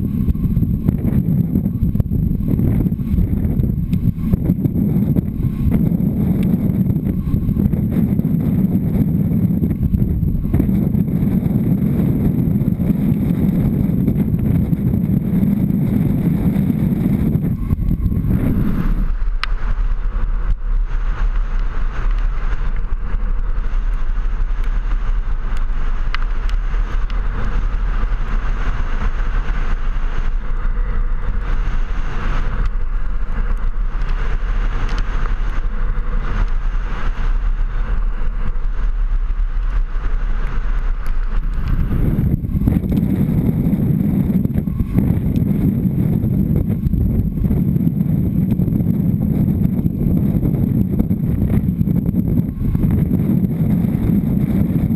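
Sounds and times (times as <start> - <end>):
buggy rolling rumble: 0.0 - 54.9
wind rushing on microphone: 0.0 - 54.9.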